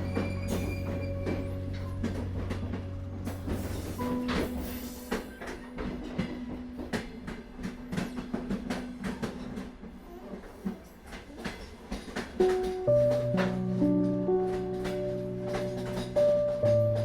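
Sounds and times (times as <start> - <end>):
soft piano note: 0.0 - 9.6, 12.4 - 17.0
train rumbling on rails: 0.0 - 17.0
wheels clicking over track: 0.0 - 17.0.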